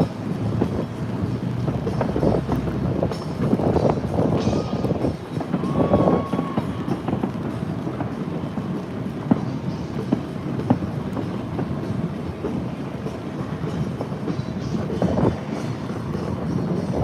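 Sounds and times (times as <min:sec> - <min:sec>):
distant fireworks rumble: 0:00.0 - 0:17.0
fireworks pops and crackles: 0:00.0 - 0:17.0.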